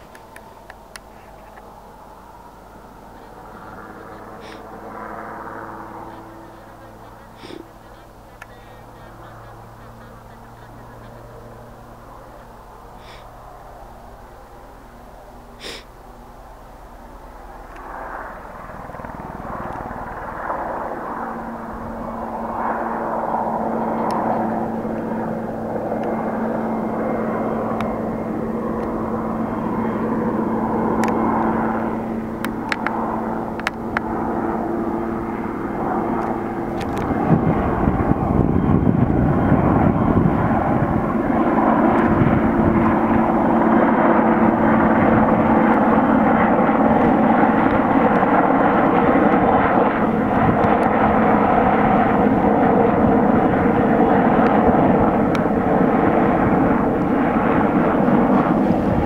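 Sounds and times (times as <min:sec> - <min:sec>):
helicopter rotor-blade chop: 0:00.0 - 0:59.0
helicopter turbine whine: 0:00.0 - 0:59.0.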